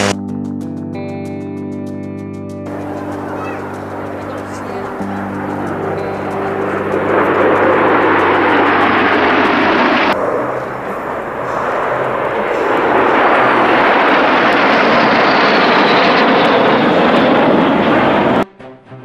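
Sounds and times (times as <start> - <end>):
jet engines flying past: 2.7 - 18.5.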